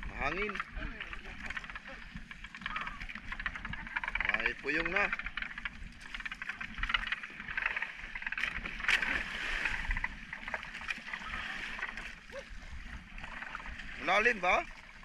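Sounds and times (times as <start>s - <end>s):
water splashing against canoe hull: 0.0s - 15.0s.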